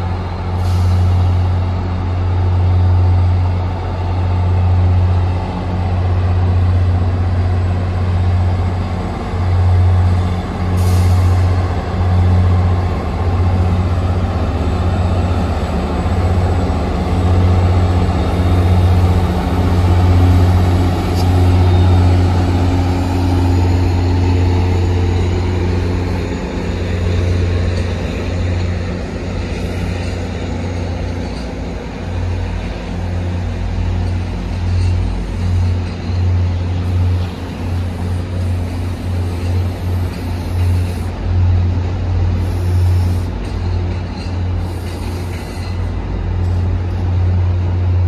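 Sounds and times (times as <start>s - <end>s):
diesel locomotive droning: 0.0s - 48.0s.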